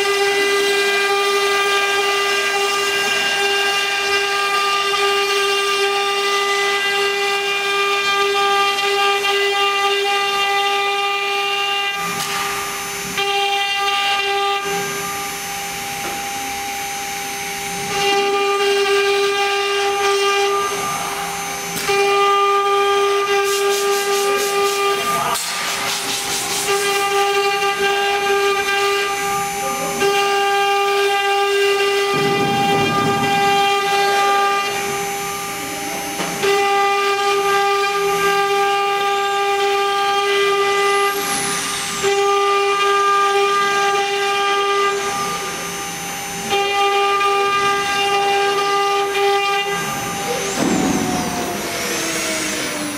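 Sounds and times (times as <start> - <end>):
router spindle whining: 0.0 - 52.9.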